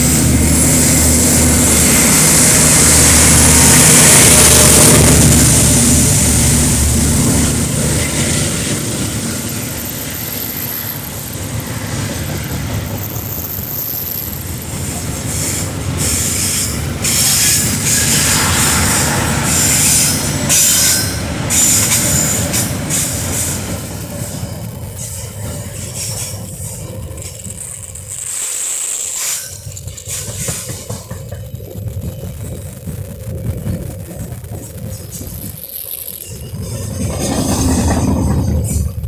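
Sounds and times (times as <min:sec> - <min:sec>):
train wheels rumbling on rails: 0:00.0 - 0:39.0
wheels clattering over rail joints: 0:00.0 - 0:39.0.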